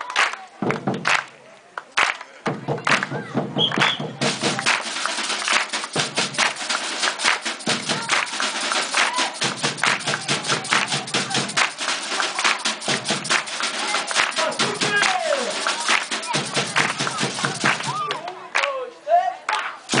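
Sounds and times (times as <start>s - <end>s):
percussion group playing fast rhythm: 0.0s - 1.3s, 2.4s - 18.2s.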